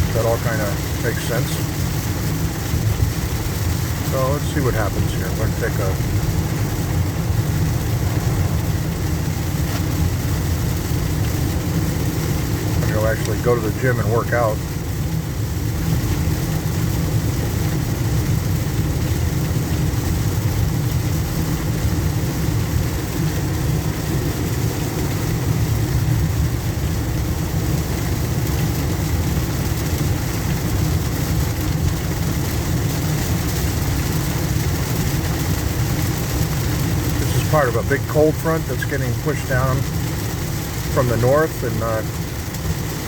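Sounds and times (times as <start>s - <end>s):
car engine and tyres rumbling: 0.0s - 43.0s
rain and water spray hiss: 0.0s - 43.0s.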